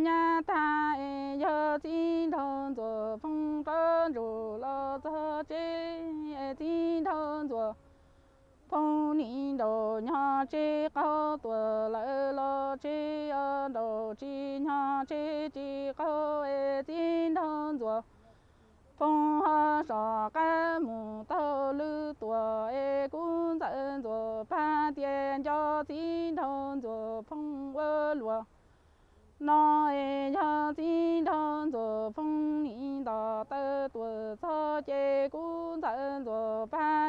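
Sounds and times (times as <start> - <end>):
woman singing unaccompanied: 0.0 - 37.0.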